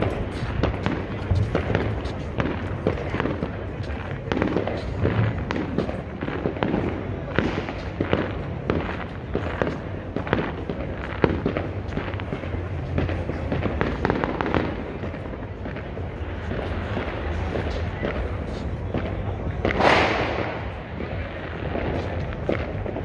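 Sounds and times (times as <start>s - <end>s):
fireworks banging and crackling: 0.0s - 23.0s.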